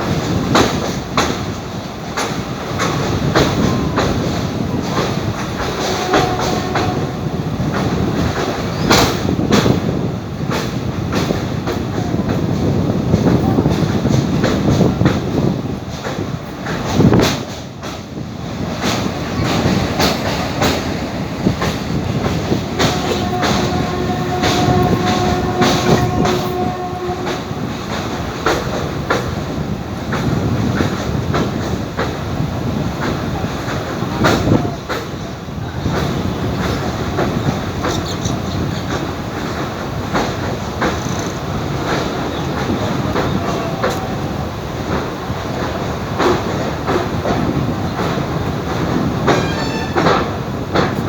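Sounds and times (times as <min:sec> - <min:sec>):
train wheels clattering: 0:00.0 - 0:51.0.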